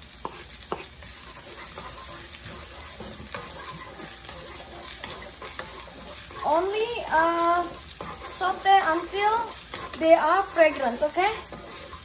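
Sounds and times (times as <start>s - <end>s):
garlic sizzling in hot oil: 0.0s - 12.0s
spatula scraping and tapping pan: 0.0s - 12.0s.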